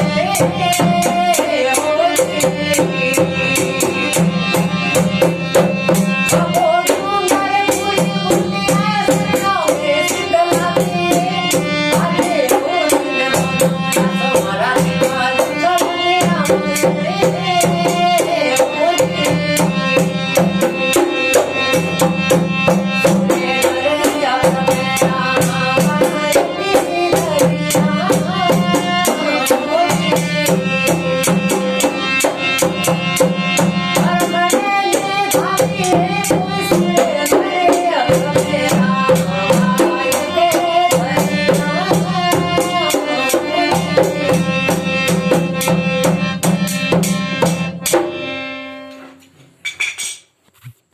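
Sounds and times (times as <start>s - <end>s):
dholak drumming: 0.0s - 48.6s.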